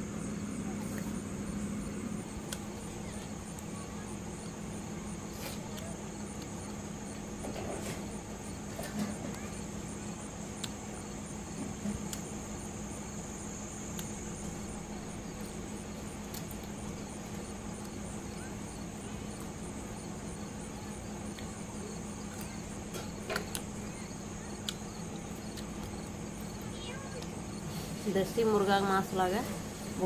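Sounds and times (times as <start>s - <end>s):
crickets chirring: 0.0s - 30.0s
low steady hum: 0.0s - 30.0s.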